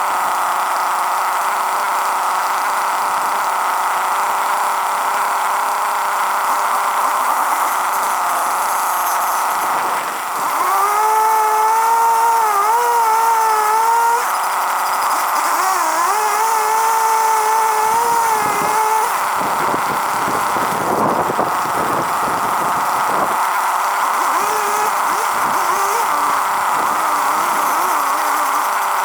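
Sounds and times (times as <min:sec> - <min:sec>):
engine-powered machine running: 0:00.0 - 0:29.0.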